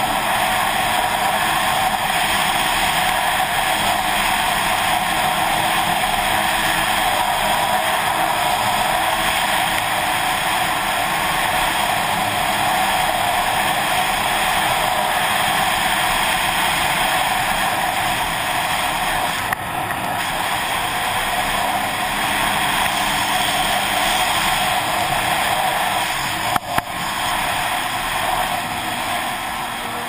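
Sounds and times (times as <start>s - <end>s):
snowmobile engine drone: 0.0s - 30.0s
wind rushing over microphone: 0.0s - 30.0s.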